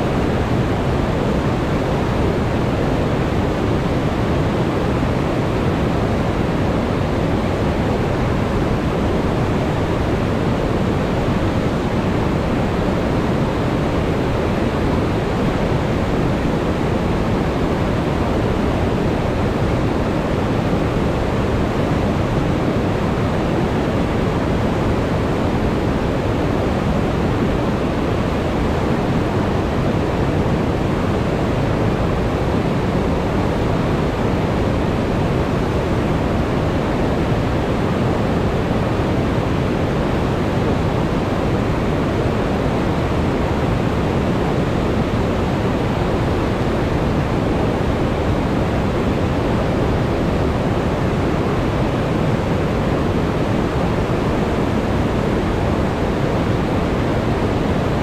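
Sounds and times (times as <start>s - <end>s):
whitewater rushing over rocks: 0.0s - 58.0s.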